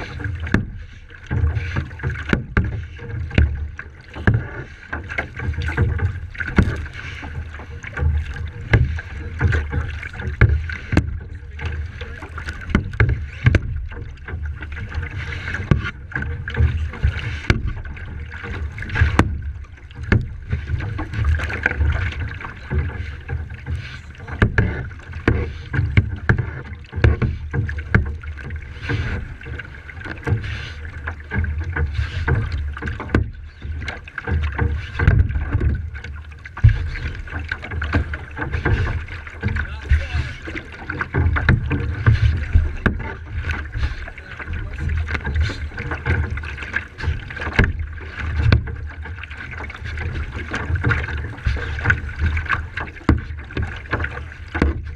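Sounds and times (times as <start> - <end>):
water splashing against kayak: 0.0 - 54.9.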